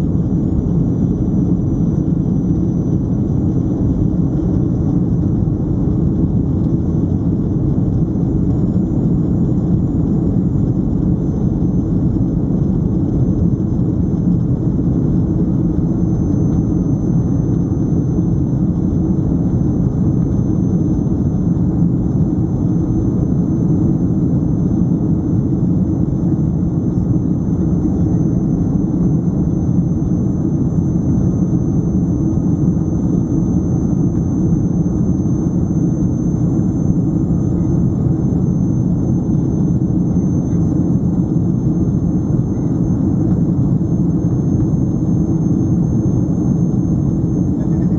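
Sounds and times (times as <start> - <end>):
faint high whine: 0.0 - 47.9.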